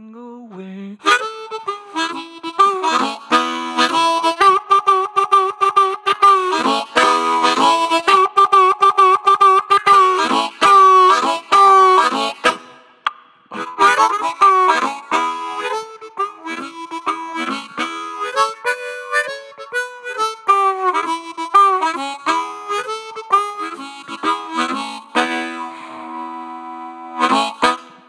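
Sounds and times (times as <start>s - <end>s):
harmonica playing: 1.0s - 28.0s.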